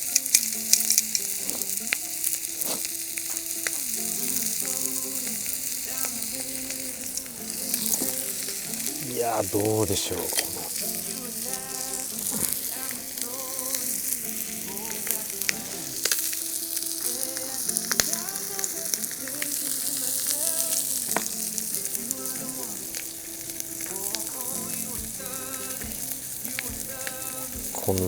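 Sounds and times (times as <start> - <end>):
chicken sizzling on a griddle: 0.0 - 28.0
sharp pops and crackles: 0.0 - 28.0.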